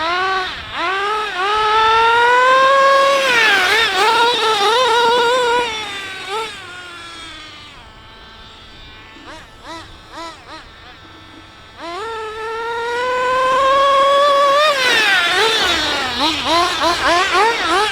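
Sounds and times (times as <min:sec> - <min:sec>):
small rc car engine revving: 0:00.0 - 0:17.9.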